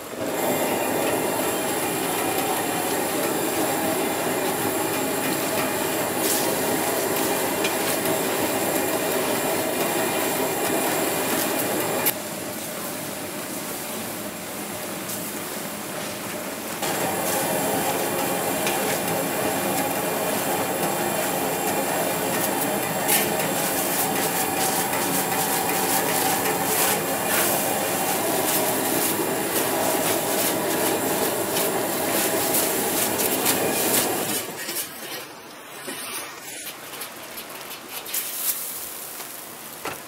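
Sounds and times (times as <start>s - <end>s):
wok burner roaring: 0.0s - 40.0s.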